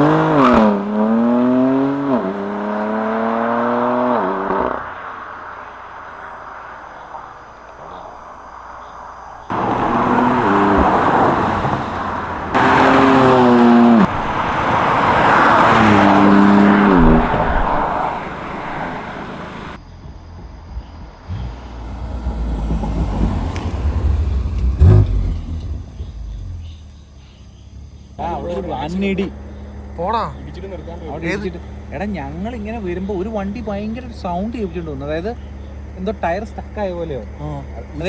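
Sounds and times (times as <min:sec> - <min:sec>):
car engine accelerating hard: 0:00.0 - 0:08.0, 0:08.8 - 0:38.0
road and tyre noise: 0:00.0 - 0:38.0.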